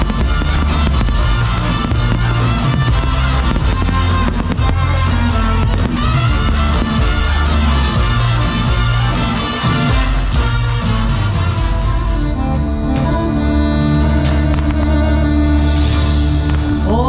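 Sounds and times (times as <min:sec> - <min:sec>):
fireworks bangs and crackles: 0:00.0 - 0:11.8, 0:14.3 - 0:16.9
loud show music with bass: 0:00.0 - 0:17.0.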